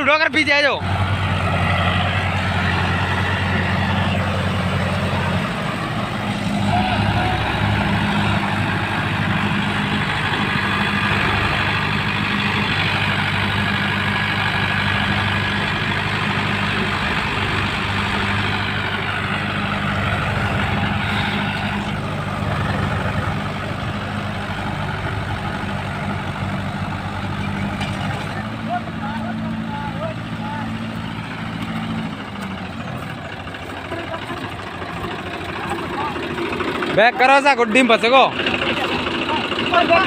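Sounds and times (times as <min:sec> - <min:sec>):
tractor diesel engines under load: 0:00.0 - 0:40.0.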